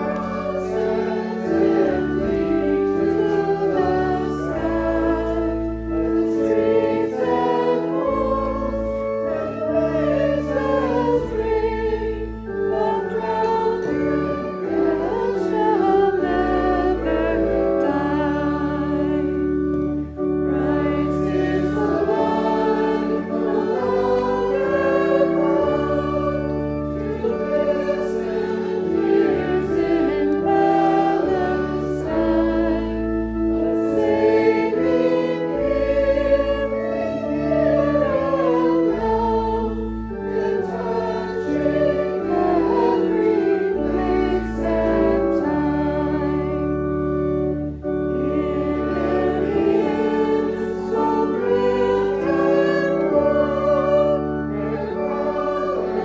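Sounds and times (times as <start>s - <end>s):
congregation singing a hymn: 0.0s - 56.0s
sustained accompanying chords: 0.0s - 56.0s.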